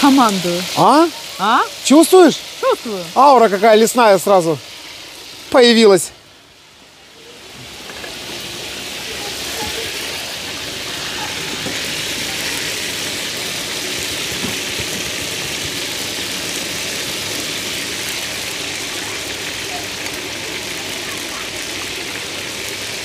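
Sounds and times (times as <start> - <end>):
mushrooms sizzling in a pan: 0.0 - 23.0.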